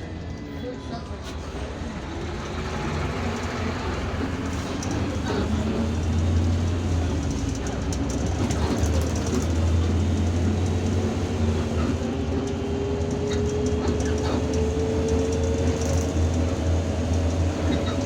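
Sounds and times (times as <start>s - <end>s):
bus engine drone: 0.0s - 18.0s
road rumble: 0.0s - 18.0s.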